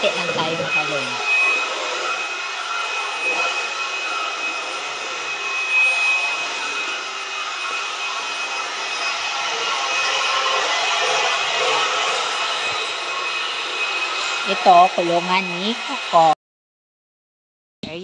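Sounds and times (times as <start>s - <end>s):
vacuum cleaner running: 0.0s - 16.4s.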